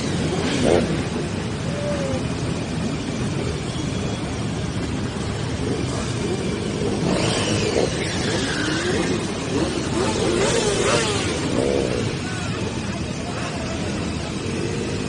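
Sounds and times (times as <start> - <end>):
rush of noise: 0.0 - 15.0.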